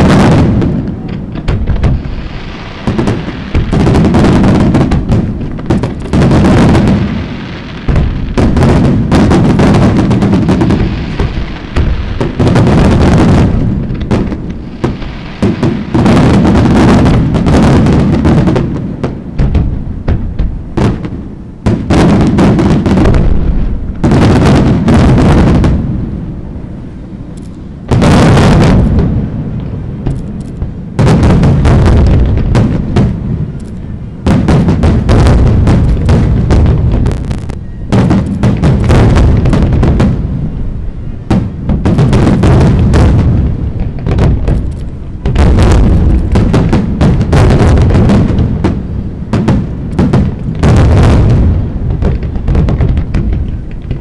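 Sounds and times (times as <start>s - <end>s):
fireworks booms and crackling bangs: 0.0s - 54.0s.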